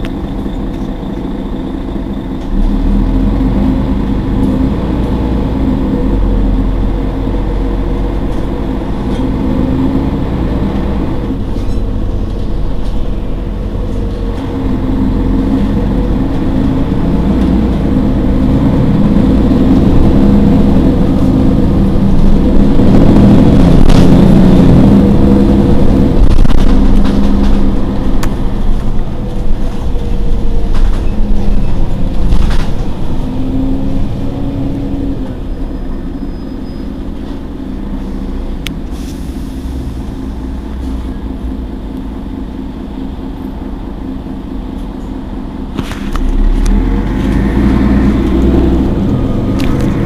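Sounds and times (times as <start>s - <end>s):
bus engine idling: 0.0s - 50.0s.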